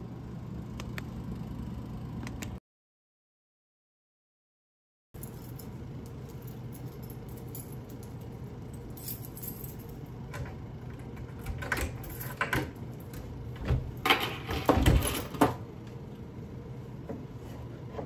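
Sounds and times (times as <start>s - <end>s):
steady low hum: 0.0s - 2.6s, 5.2s - 18.0s.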